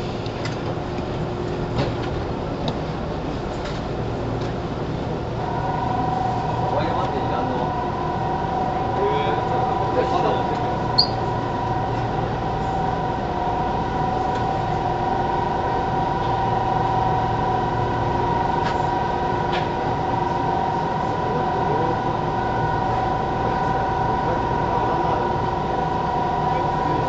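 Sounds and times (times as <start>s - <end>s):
train interior rumble: 0.0s - 27.0s
two-tone motor hum: 0.0s - 27.0s.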